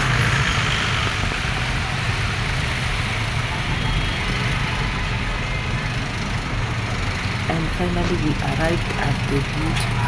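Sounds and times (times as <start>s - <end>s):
street traffic engines: 0.0s - 10.0s.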